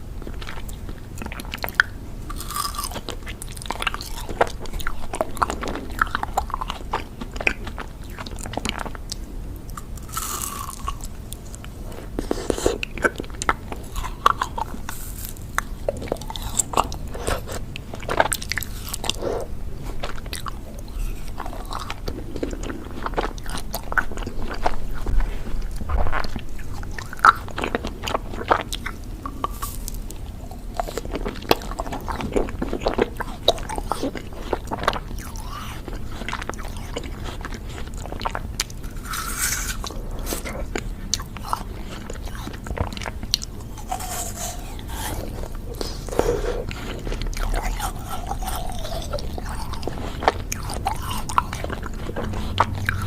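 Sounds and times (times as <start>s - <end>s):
crunchy bites and chewing: 0.2s - 53.0s.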